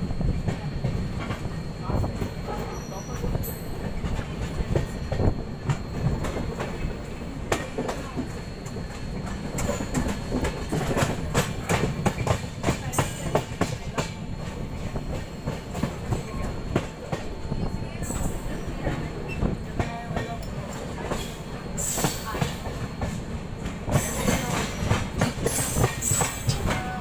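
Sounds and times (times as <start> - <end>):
train rumble: 0.0 - 27.0
train wheels clattering over rail joints: 3.8 - 17.3, 18.2 - 27.0.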